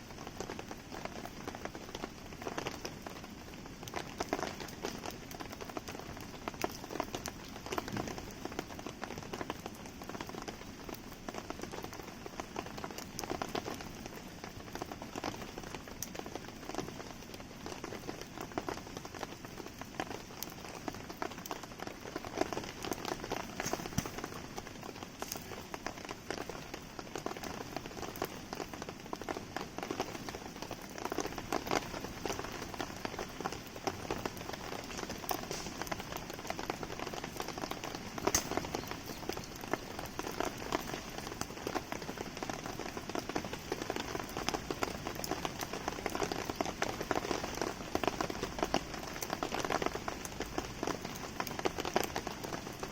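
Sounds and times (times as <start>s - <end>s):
campfire crackling: 0.0s - 52.9s
rain pattering: 0.0s - 52.9s.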